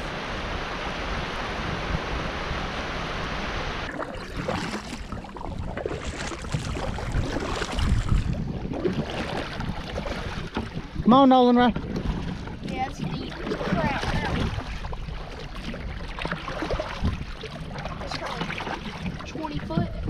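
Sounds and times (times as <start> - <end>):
rushing river water: 0.0 - 20.0
water splashing: 0.0 - 20.0.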